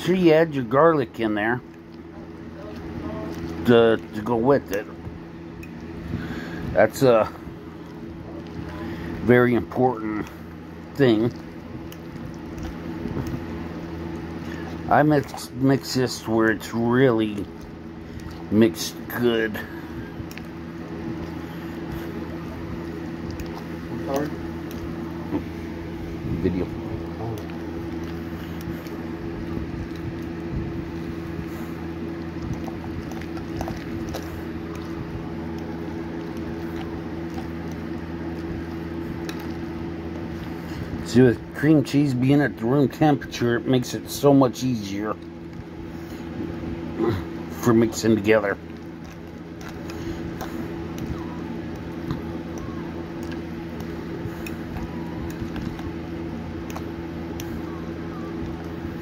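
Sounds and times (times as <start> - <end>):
low hum: 0.0 - 59.0
thick mixture squishing: 0.0 - 59.0.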